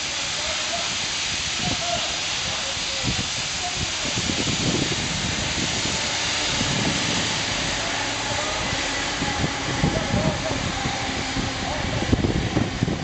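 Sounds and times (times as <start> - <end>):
abrasive grit blasting hiss: 0.0 - 13.0
low uneven rumble: 0.0 - 13.0.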